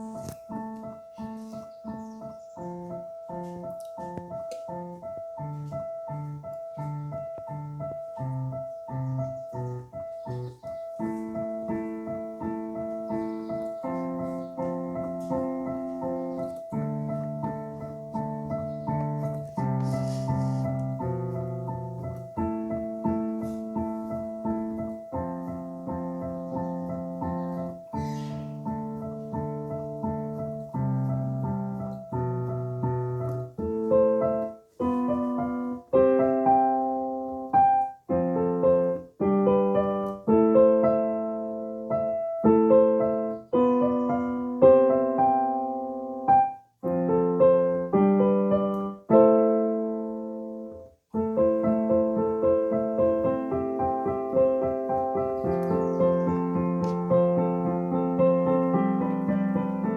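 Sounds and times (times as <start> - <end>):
piano keyboard chords and melody: 0.0 - 59.9.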